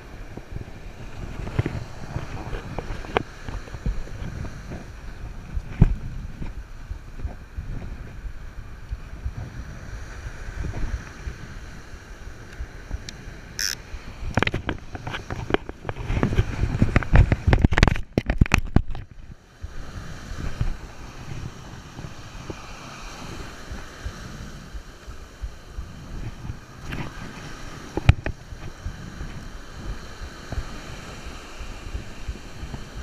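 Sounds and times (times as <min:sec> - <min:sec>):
surf washing on beach: 0:00.0 - 0:33.0
wind buffeting microphone: 0:00.0 - 0:33.0.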